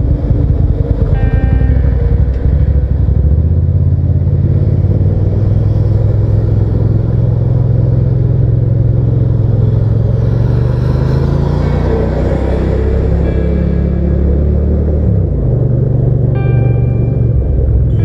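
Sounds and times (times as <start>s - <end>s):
motorcycle engine droning: 0.0s - 18.0s.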